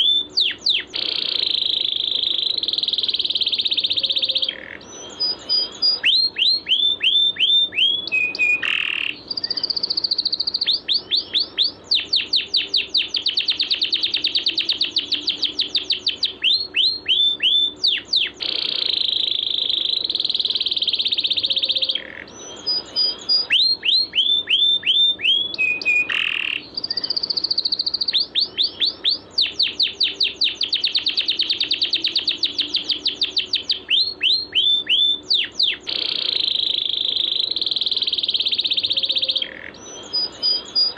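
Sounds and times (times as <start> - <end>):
buzzing bird trill: 0.0 - 40.9
sharp downward-sweeping bird chirps: 0.0 - 40.9.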